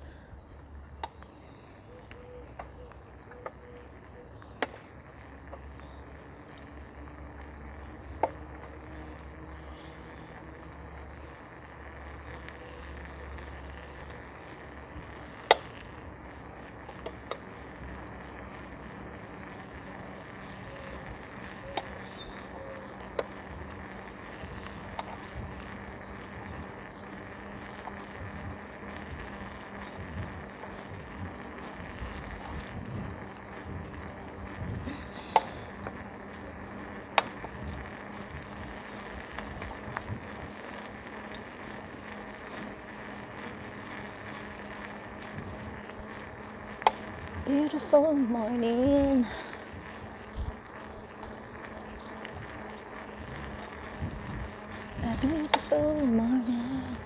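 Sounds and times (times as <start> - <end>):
bicycle clicks and rattles: 0.0 - 57.0
bicycle rushing noise: 0.0 - 57.0.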